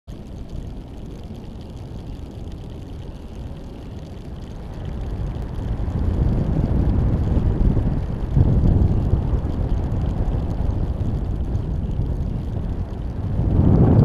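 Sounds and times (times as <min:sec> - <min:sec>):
wind buffeting microphone: 0:00.1 - 0:14.0.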